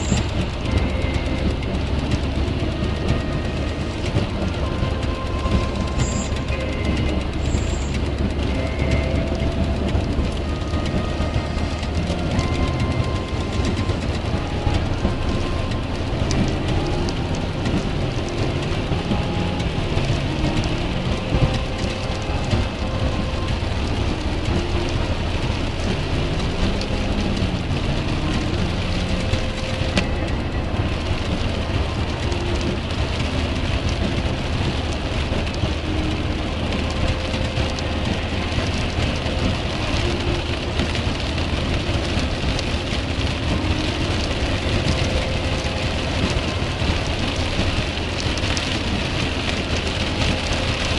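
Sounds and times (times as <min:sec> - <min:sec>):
car engine humming: 0:00.0 - 0:50.9
heavy rain hitting car: 0:00.0 - 0:50.9
tyres on wet road: 0:00.0 - 0:50.9.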